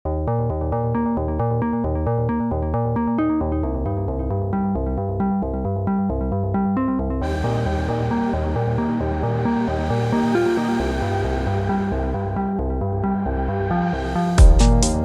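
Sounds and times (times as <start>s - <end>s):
pulsing bass: 0.0s - 15.0s
synthesizer and electric piano: 0.1s - 15.0s.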